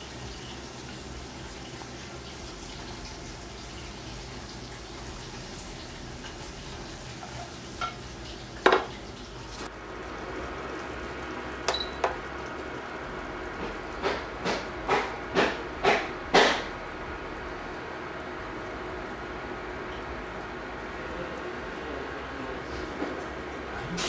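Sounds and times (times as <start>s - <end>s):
frying pan sizzle: 0.0s - 21.8s.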